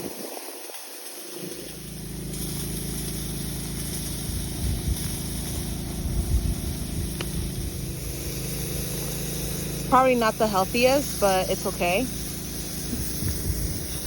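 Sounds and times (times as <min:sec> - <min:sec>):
engine idling hum: 0:00.0 - 0:14.0
low rumbles: 0:01.5 - 0:14.0.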